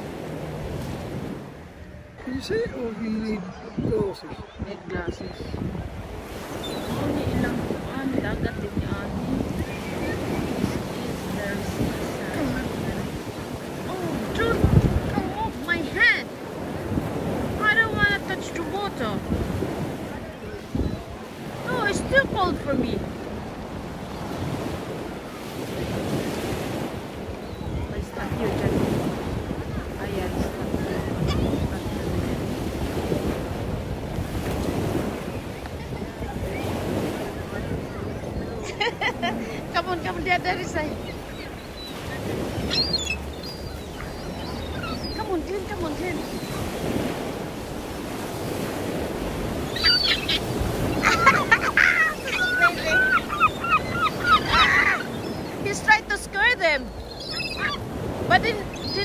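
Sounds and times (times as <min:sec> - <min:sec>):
wind noise on microphone: 0:00.0 - 0:55.8
small waves washing onto beach: 0:00.0 - 0:59.0
gulls calling and squabbling: 0:01.6 - 0:33.6, 0:34.2 - 0:59.0.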